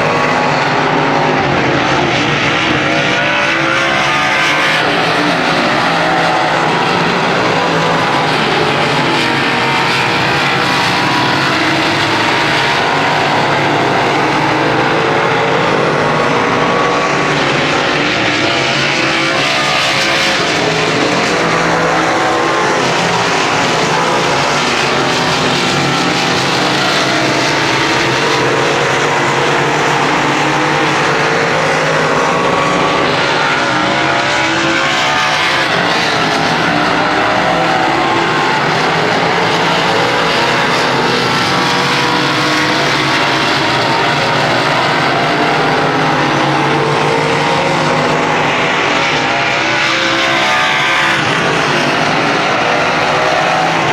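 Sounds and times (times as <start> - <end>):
racing engines running: 0.0 - 53.9.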